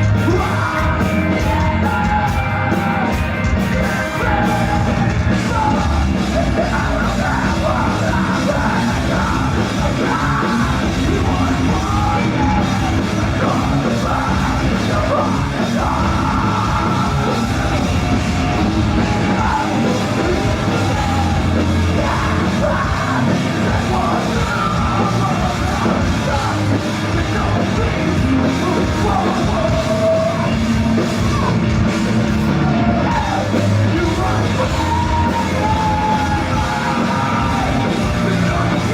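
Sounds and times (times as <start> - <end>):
person yelling lead vocal: 0.0 - 38.9
rock band playing: 0.0 - 38.9.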